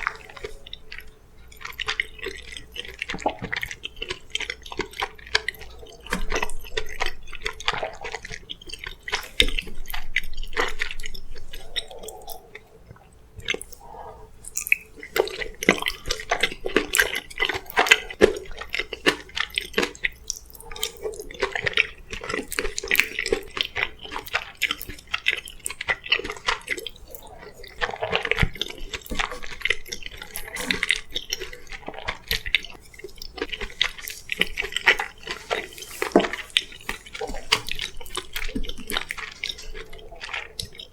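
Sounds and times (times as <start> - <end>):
wet chewing and mouth sounds: 0.0 - 40.9.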